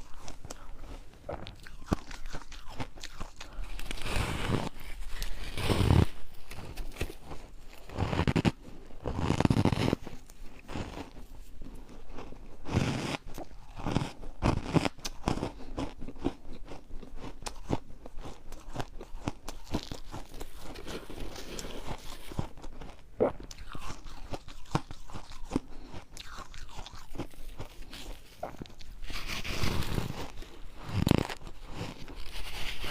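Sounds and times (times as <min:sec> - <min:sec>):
ice being chewed: 0:00.0 - 0:32.9.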